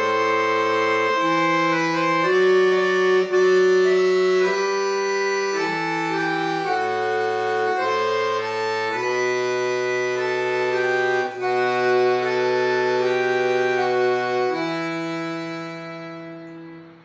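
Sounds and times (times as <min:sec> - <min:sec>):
accordion playing chords: 0:00.0 - 0:17.0.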